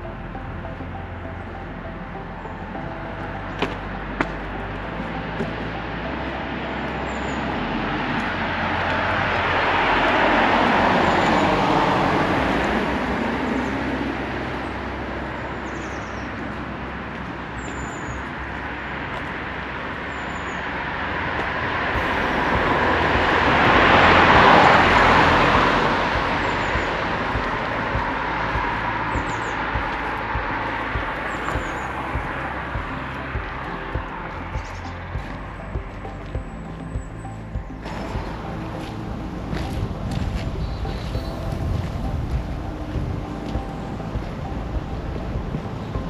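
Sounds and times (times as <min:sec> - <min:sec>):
cars passing by: 0:00.0 - 0:46.0.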